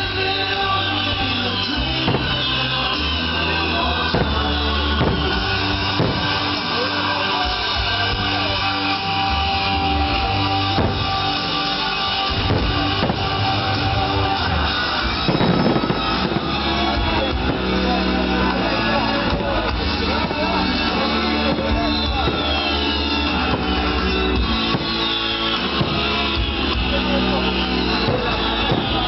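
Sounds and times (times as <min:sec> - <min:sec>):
rock music guitar and drums: 0:00.0 - 0:29.0.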